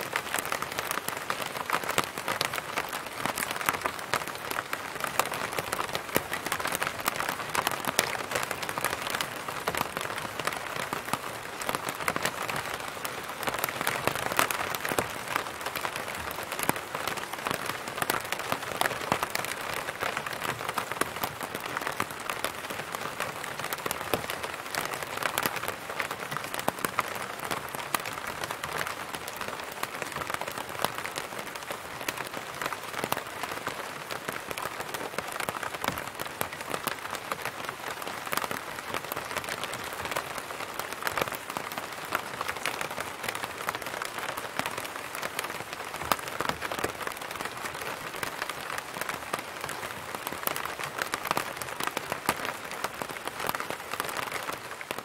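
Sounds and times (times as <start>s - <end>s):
rain on umbrella: 0.0s - 55.0s.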